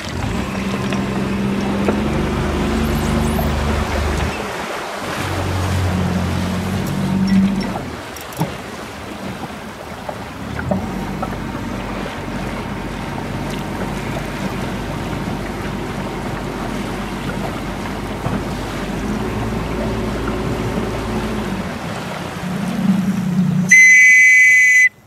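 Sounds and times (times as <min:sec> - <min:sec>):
outboard motor running: 0:00.0 - 0:24.9
water washing past hull: 0:00.0 - 0:25.0.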